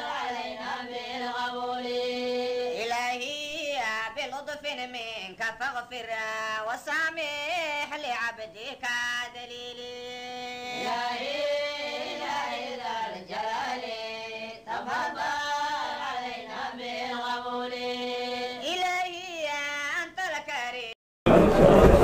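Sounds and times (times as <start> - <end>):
voices chanting devotional poem: 0.0 - 22.0.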